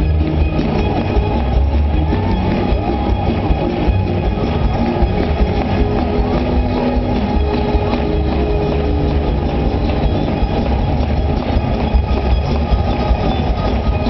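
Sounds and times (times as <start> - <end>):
church band playing: 0.0 - 14.0
congregation clapping: 0.0 - 14.0.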